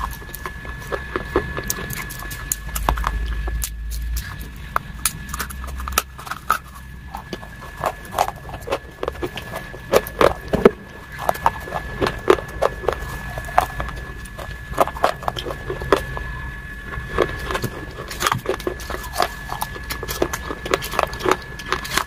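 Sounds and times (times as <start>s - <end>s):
crunching and chewing: 0.0s - 22.0s.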